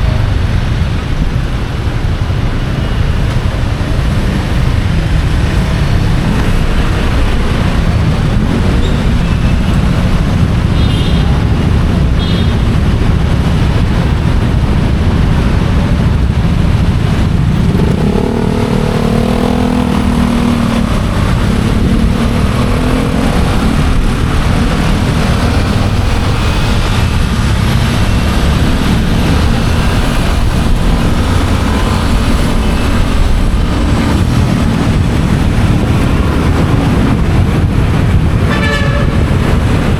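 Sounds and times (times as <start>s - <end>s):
road noise: 0.0s - 39.9s
motorcycle engine running: 3.6s - 39.9s.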